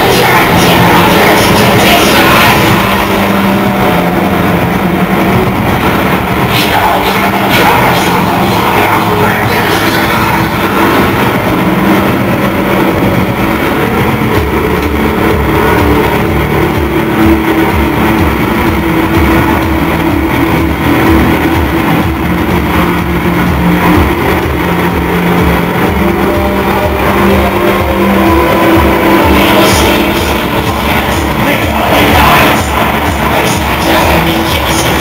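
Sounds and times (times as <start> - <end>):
distorted industrial rock music: 0.0 - 35.0.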